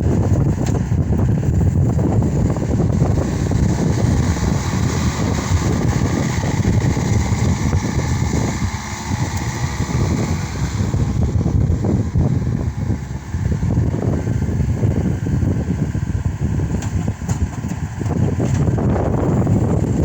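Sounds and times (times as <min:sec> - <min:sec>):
loader diesel engine running: 0:00.0 - 0:20.0.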